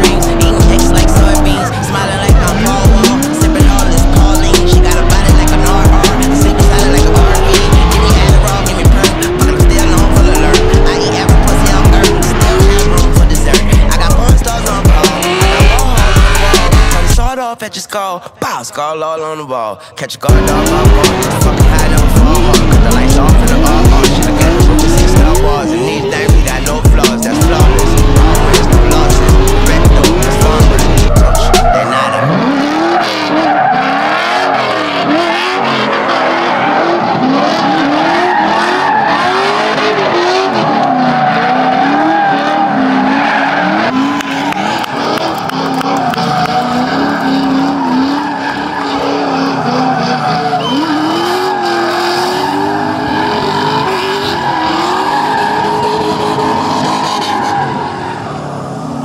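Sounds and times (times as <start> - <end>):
car engine revving: 0.0 - 17.3, 20.2 - 59.0
tyres screeching: 0.0 - 17.3, 20.3 - 59.0.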